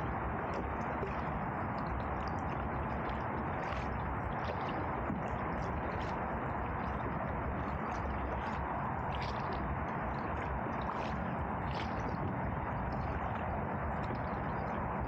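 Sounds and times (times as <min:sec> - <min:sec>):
water dripping off paddle: 0:00.0 - 0:14.7
steady rushing water: 0:00.0 - 0:15.0.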